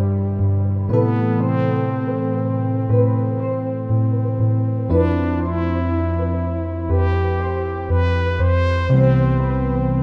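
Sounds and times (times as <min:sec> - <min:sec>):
slow meditation music: 0:00.0 - 0:10.0.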